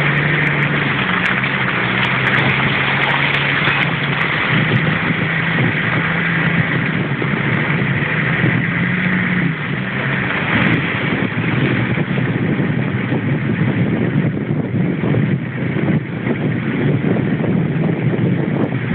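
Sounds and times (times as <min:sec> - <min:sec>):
rushing noise of moving vehicle: 0:00.0 - 0:18.9
vehicle engine humming: 0:00.0 - 0:18.9.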